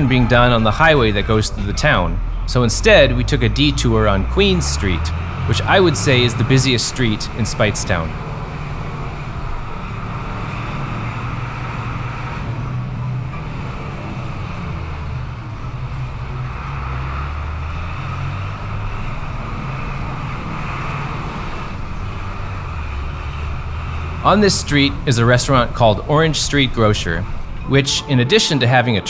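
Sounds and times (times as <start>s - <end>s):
bus engine hum: 0.0s - 29.0s
road noise: 0.0s - 29.0s.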